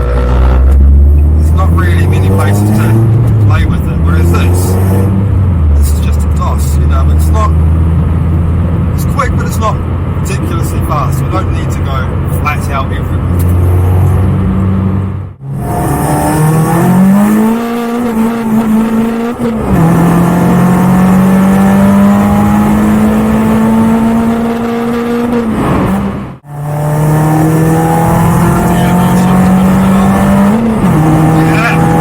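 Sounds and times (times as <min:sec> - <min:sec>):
car engine revving in cabin: 0:00.0 - 0:32.0.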